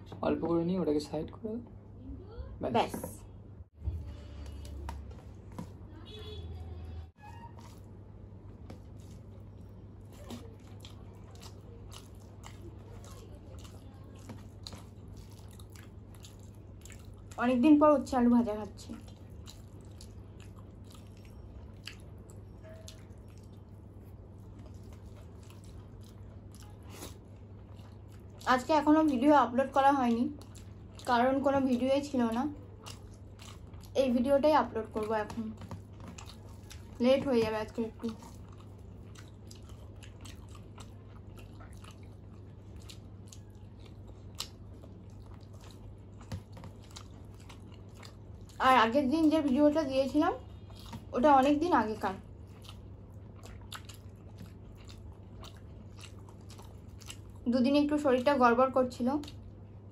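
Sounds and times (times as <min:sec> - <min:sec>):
low steady hum: 0:00.0 - 0:59.9
soft wet squishes of food: 0:00.0 - 0:59.9
chewing and lip smacks: 0:07.2 - 0:17.4, 0:18.6 - 0:59.9.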